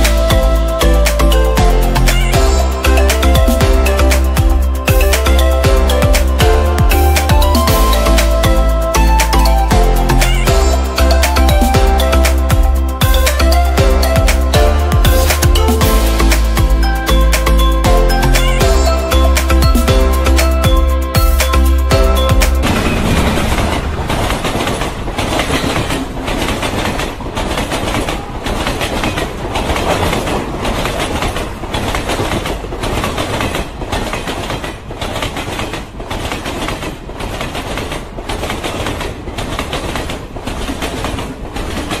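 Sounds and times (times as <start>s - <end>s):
rhythmic clickety-clack: 0.0s - 42.0s
train wheels rumbling: 0.0s - 42.0s.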